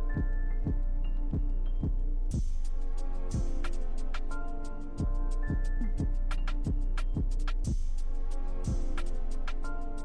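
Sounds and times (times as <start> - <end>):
electronic music with bass beat: 0.0 - 10.0.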